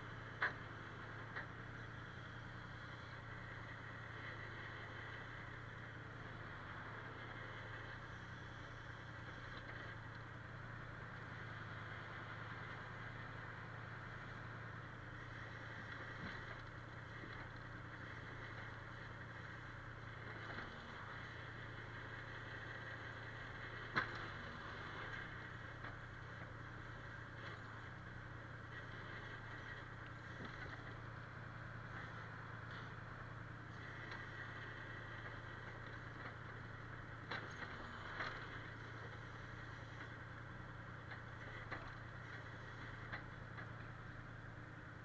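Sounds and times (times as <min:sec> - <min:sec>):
low engine hum: 0:00.0 - 0:45.0.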